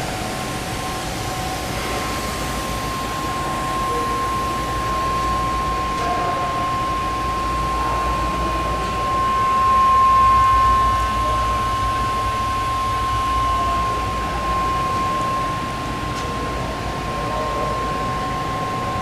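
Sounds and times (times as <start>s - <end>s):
lathe machine whine: 0.0s - 19.0s
higher whining tones: 0.7s - 19.0s.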